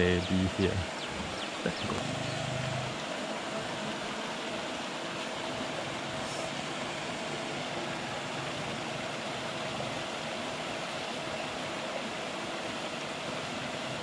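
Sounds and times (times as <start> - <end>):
churning water: 0.0 - 14.0
faint steady hum: 0.0 - 14.0.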